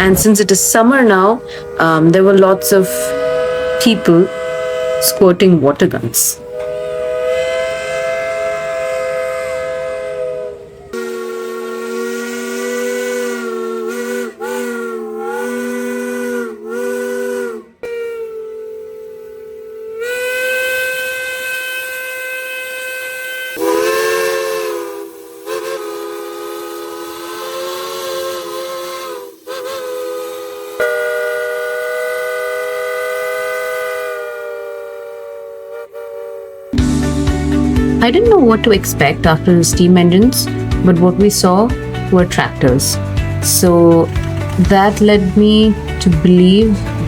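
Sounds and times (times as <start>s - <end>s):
steam whistles blowing chords: 0.0s - 47.0s.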